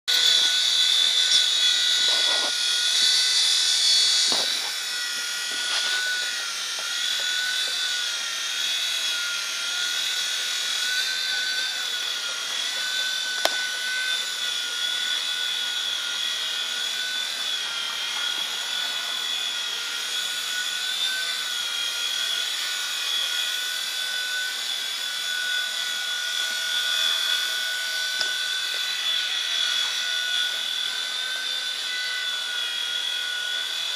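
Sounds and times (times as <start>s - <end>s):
rc copter buzzing whine: 0.1s - 33.9s.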